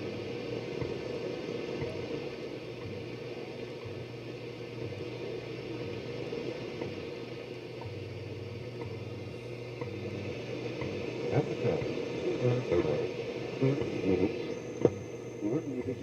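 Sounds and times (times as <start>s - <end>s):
low hum: 0.0s - 16.0s
shortwave radio static and hiss: 0.0s - 16.0s.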